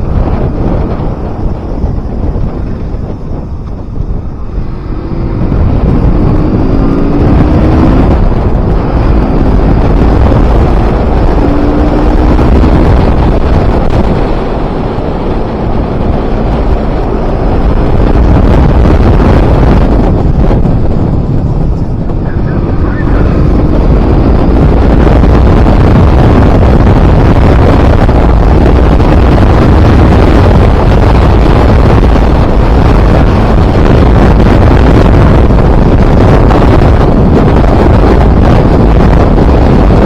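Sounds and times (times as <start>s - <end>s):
motorcycle engine accelerating: 0.0s - 40.0s
wind buffeting microphone: 0.0s - 40.0s.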